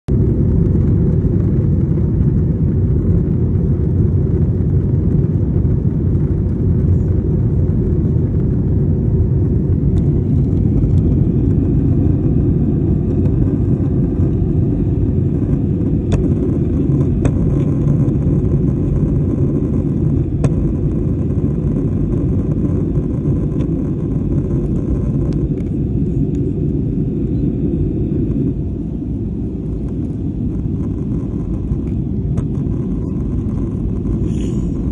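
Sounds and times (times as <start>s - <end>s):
airliner cabin rumble: 0.1s - 34.9s.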